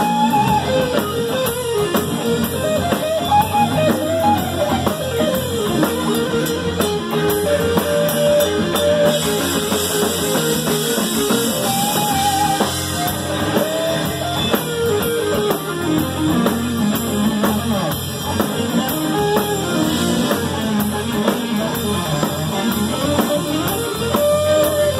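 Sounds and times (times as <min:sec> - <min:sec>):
drum kit with cymbals: 0:00.0 - 0:24.9
electric guitar melody: 0:00.0 - 0:24.9
low bass: 0:00.0 - 0:24.9.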